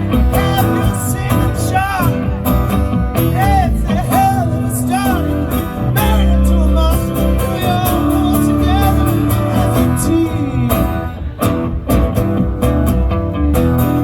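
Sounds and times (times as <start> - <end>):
bass guitar: 0.0 - 14.0
drums: 0.0 - 14.0
lead guitar with string bends: 0.0 - 14.0.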